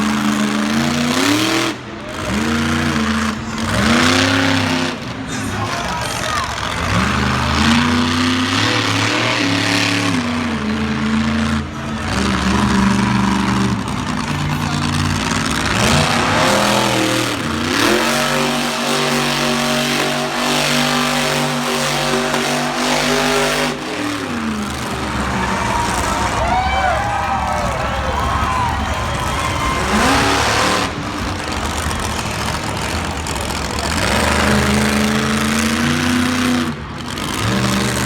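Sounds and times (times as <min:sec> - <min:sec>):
truck engine revving: 0:00.0 - 0:38.0.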